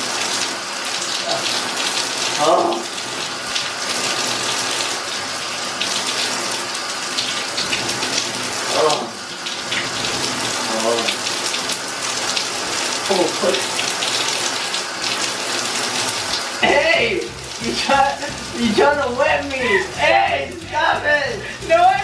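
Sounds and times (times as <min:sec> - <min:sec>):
shower spraying water onto hair: 0:00.0 - 0:22.0.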